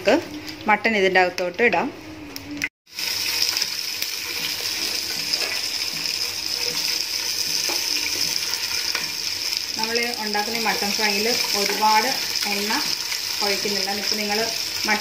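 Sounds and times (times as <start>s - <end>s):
meat sizzling in oil: 2.9s - 15.0s.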